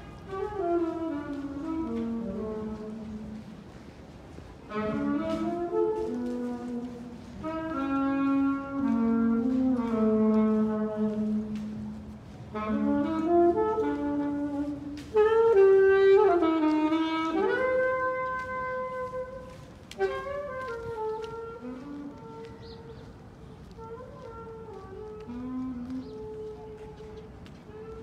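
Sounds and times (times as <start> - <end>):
solo saxophone melody: 0.0 - 3.7, 4.6 - 28.0.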